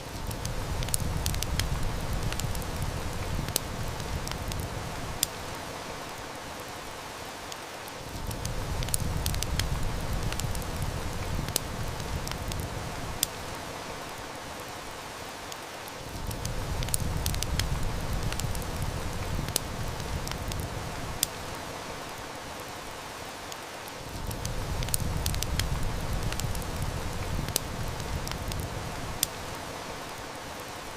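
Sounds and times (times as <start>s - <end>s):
heavy rain hissing: 0.0s - 30.9s
wood fire crackling: 0.0s - 30.9s.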